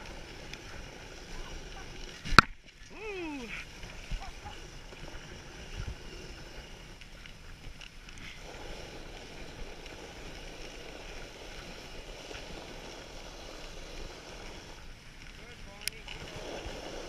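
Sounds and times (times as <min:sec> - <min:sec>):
sled runners sliding over snow: 0:00.0 - 0:17.0.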